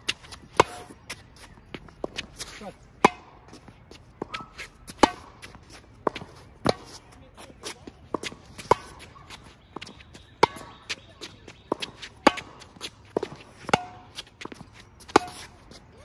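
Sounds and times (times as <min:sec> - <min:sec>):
tennis balls struck with rackets: 0:00.0 - 0:15.8
footsteps on court: 0:00.0 - 0:16.0
shoes squeaking on hard court: 0:00.0 - 0:16.0.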